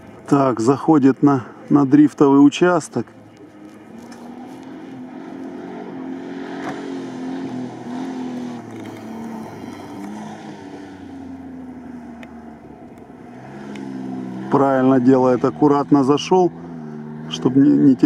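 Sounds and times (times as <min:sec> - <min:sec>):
off-road car engine revving: 0:00.0 - 0:18.0.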